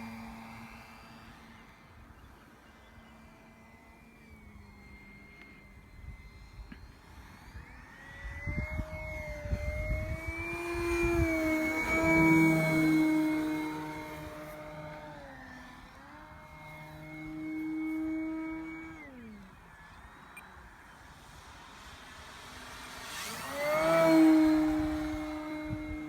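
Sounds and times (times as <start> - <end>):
model plane motor whining: 0.0 - 26.0
wind rumbling on microphone: 4.2 - 26.0.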